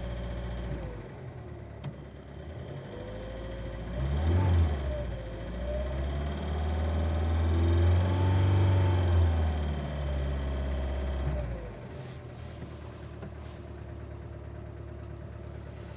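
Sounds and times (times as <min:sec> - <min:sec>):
car engine revving and idling: 0:00.0 - 0:15.9.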